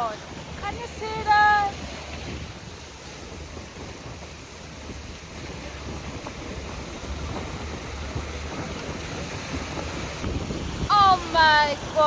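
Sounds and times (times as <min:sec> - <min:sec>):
wind gusting against microphone: 0:00.0 - 0:12.0
storm rushing hiss: 0:00.3 - 0:12.0.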